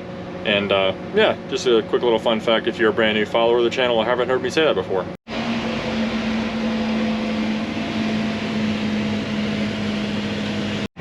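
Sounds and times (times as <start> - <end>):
harvest machinery engine droning: 0.0 - 11.0.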